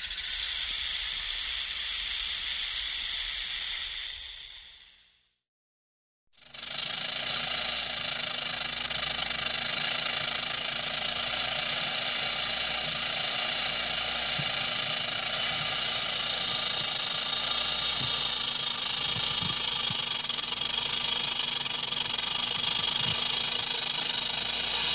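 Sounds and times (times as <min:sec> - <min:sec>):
snake buzzing hiss: 0:00.0 - 0:05.3, 0:09.9 - 0:24.9.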